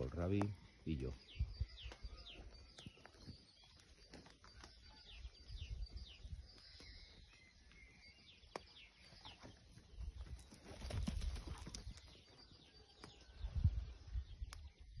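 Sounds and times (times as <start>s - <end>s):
small birds chirping and singing: 0.0s - 15.0s.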